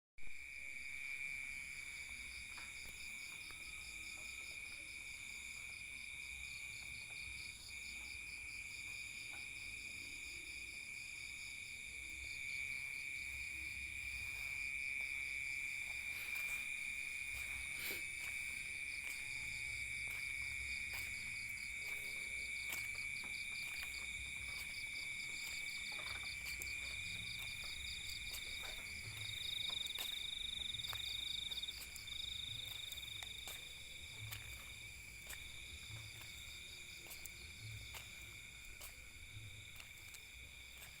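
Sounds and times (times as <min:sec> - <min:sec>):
insects trilling: 0:00.4 - 0:41.0.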